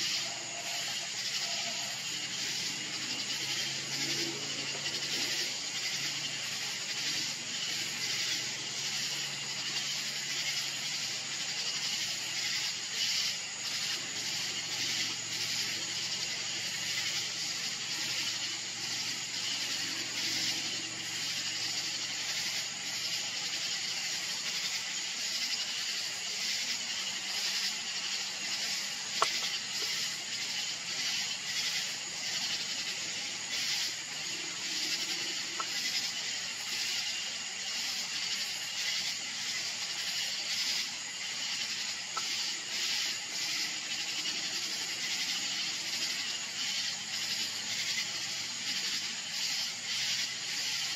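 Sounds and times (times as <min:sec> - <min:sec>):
high-pitched hiss: 0:00.0 - 0:50.9.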